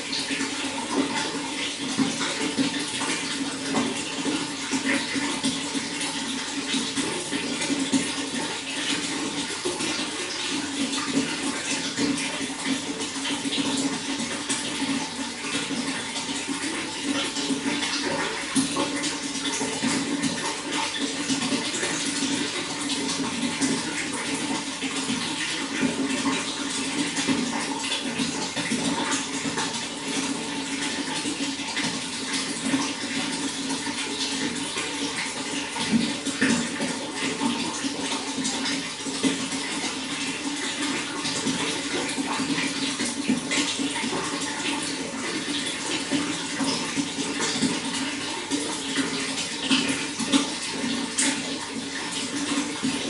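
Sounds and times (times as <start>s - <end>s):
running water flowing: 0.0s - 53.0s.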